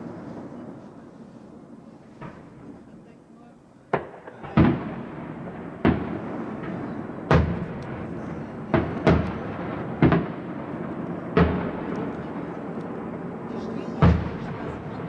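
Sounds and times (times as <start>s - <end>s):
fireworks bangs echoing: 0.0s - 3.2s, 3.8s - 15.0s.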